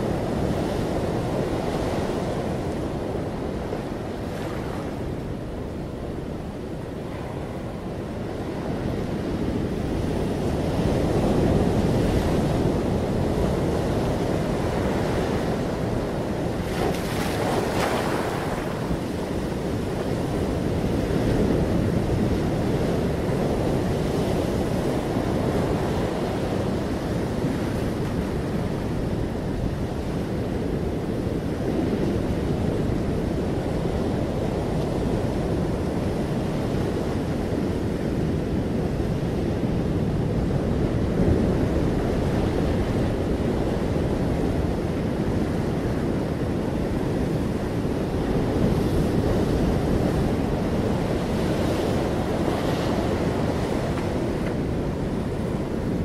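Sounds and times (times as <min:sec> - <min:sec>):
ocean surf washing up beach: 0:00.0 - 0:56.0.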